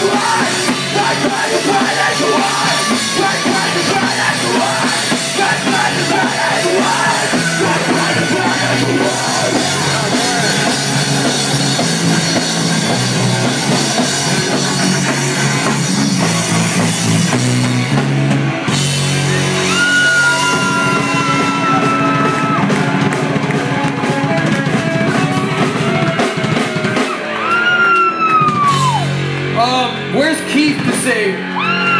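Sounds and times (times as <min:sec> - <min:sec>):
live rock band playing: 0:00.0 - 0:31.9.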